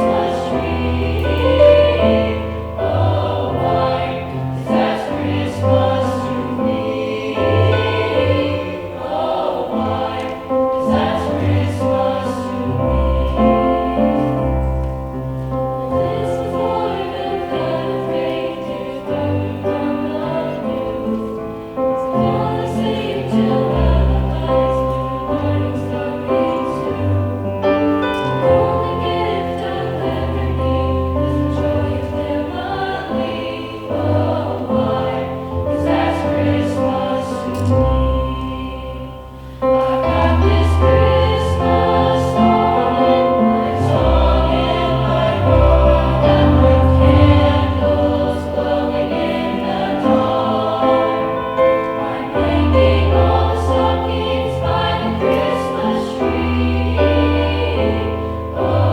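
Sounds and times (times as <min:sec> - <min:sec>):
choir singing: 0:00.0 - 0:58.9.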